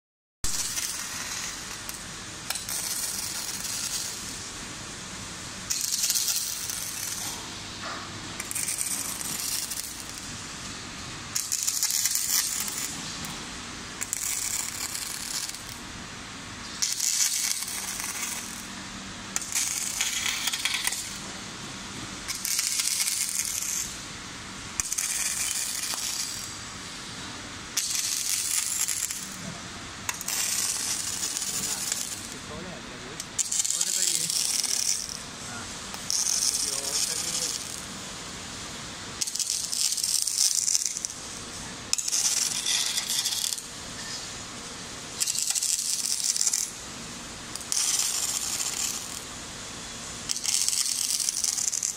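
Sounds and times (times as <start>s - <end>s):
welding torch crackling: 0.4s - 51.9s.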